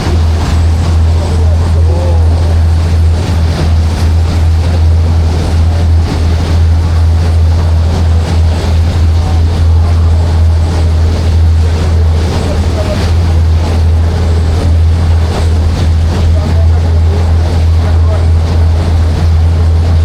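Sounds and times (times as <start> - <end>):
ferry engine deep hum: 0.0 - 20.0
water washing: 0.0 - 20.0.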